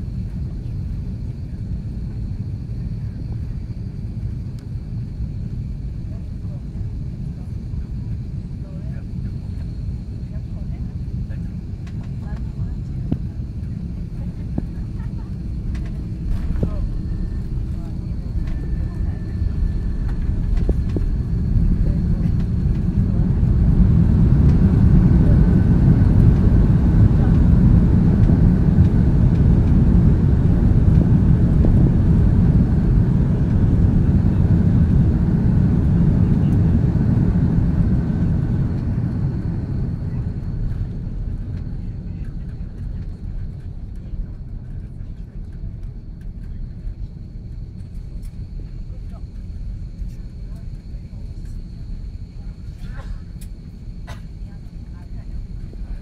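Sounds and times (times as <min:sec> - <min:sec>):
aircraft wheels and engines rumbling: 0:00.0 - 0:56.0.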